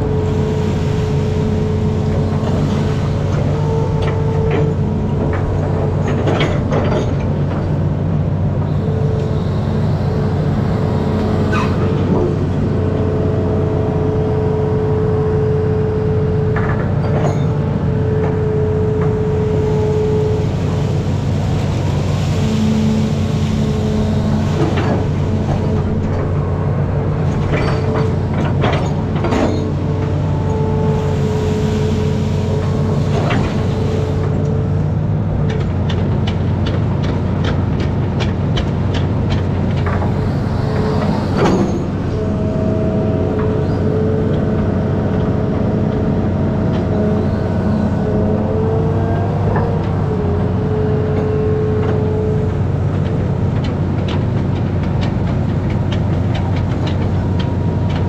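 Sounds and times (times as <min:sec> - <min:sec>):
hydraulic whine: 0:00.0 - 0:35.4, 0:39.4 - 0:53.6
diesel engine running: 0:00.0 - 0:58.0.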